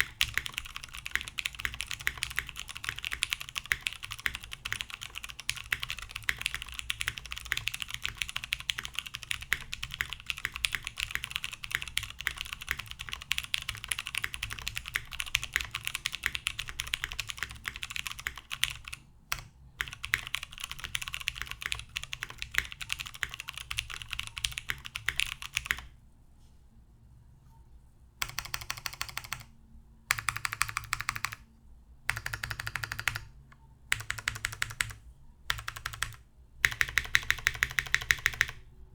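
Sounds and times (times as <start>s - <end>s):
typing on mechanical keyboard: 0.0s - 25.9s, 28.2s - 29.5s, 30.1s - 31.4s, 32.1s - 38.6s.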